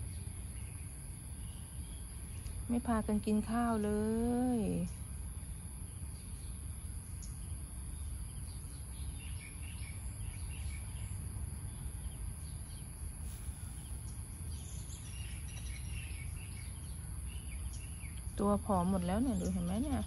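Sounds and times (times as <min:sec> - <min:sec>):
birds chirping faintly: 0:00.0 - 0:20.0
low steady rumble: 0:00.0 - 0:20.0.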